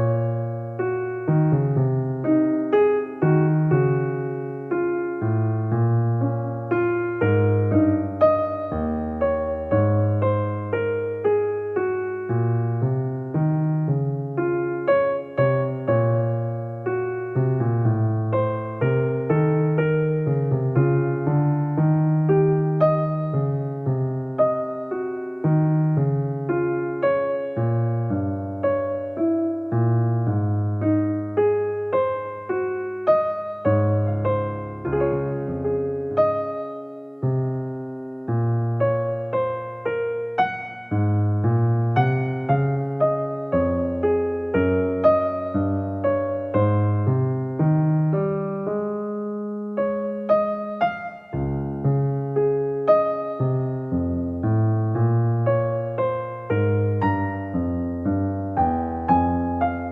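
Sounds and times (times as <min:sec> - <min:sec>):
slow piano melody: 0:00.0 - 0:59.9.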